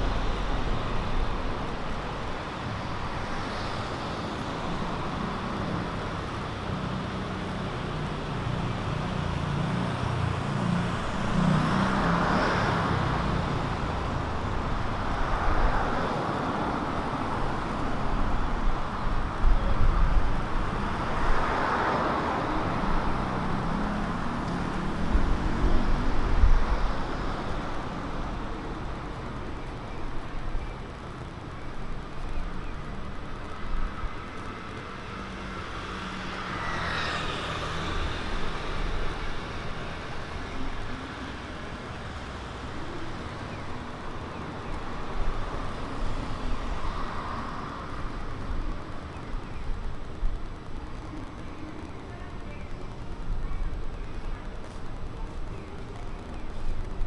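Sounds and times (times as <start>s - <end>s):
cars passing by: 0.0s - 57.0s
hum of traffic engines: 0.0s - 57.0s.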